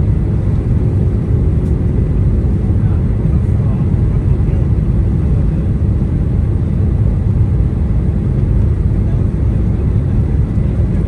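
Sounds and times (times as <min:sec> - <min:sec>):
airplane engines rumbling in cabin: 0:00.0 - 0:11.0.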